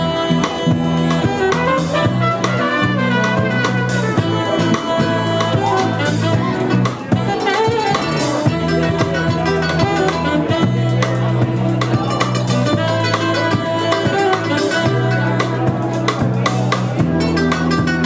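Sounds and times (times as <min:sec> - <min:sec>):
drum kit strokes: 0:00.0 - 0:18.0
live band playing: 0:00.0 - 0:18.0.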